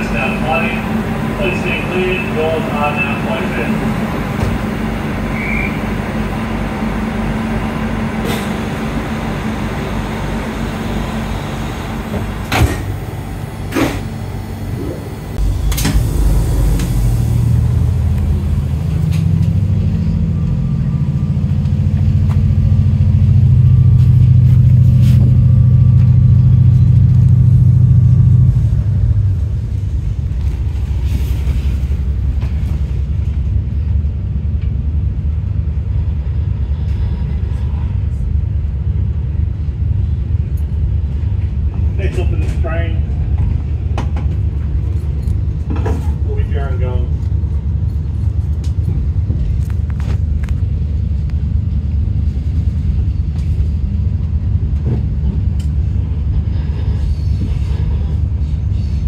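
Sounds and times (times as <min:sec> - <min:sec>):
diesel engine idling and revving: 0:00.0 - 0:59.0.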